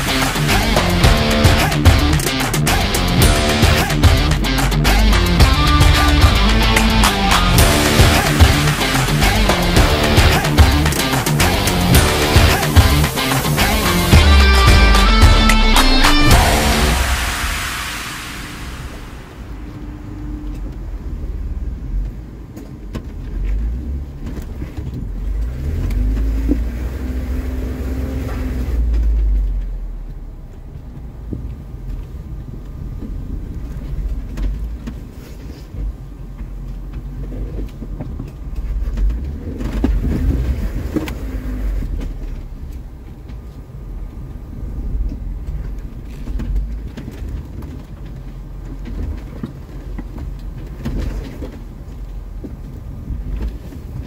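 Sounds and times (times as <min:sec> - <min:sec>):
engine and drivetrain rumble: 0:00.0 - 0:54.0.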